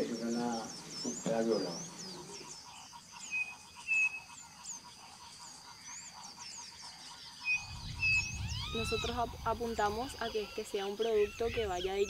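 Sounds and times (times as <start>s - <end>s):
frogs chirping: 0.0s - 12.0s.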